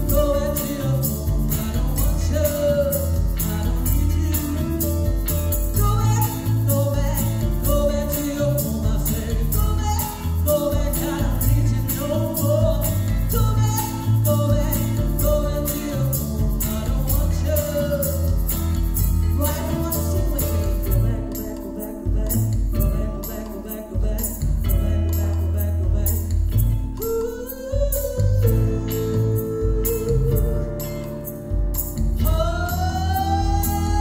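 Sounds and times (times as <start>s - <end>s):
woman singing into a microphone: 0.0s - 31.2s, 32.2s - 34.0s
backing track with beat: 0.0s - 34.0s.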